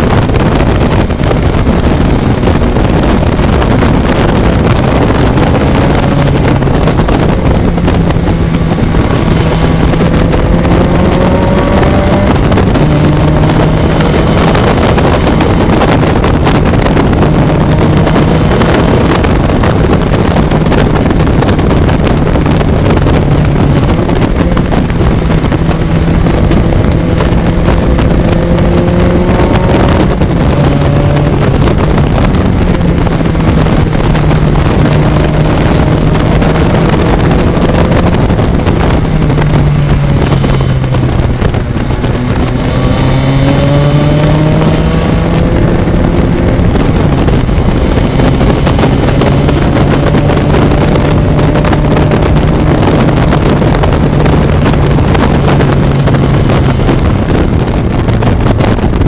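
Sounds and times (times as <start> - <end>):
race car engine revving: 0.0 - 59.0
wind rush on microphone: 0.0 - 59.0.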